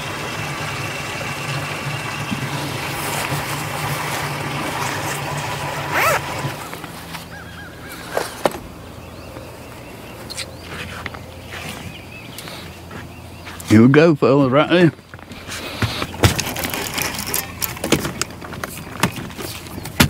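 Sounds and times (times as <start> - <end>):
boat engine droning: 0.0 - 13.5, 15.2 - 19.8.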